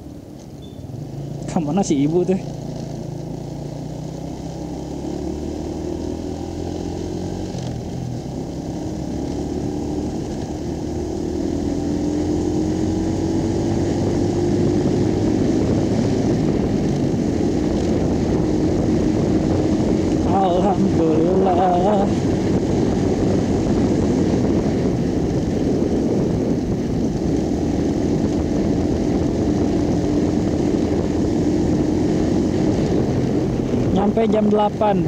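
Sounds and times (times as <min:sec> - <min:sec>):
motorcycle engine accelerating: 0:00.0 - 0:35.0
wind and road noise: 0:00.0 - 0:35.0.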